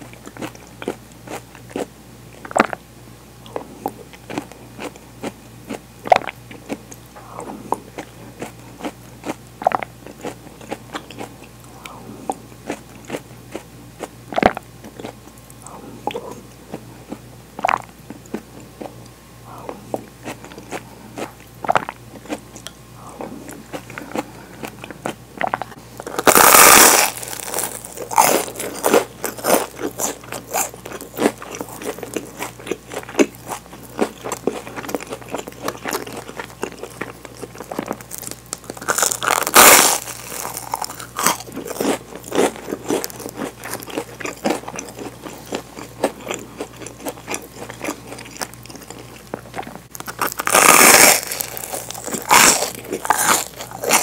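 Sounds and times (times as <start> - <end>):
chewing: 0.0 - 2.8, 3.4 - 54.0
crunchy sandwich bites: 3.5 - 54.0.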